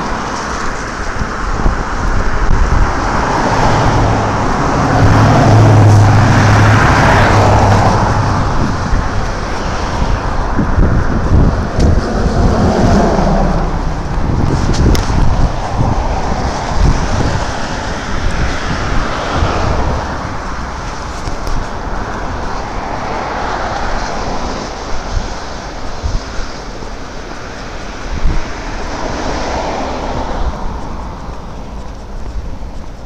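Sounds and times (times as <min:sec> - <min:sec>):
roadway noise: 0:00.0 - 0:33.0
vehicle engine hum: 0:00.0 - 0:33.0
wind buffeting microphone: 0:00.0 - 0:33.0.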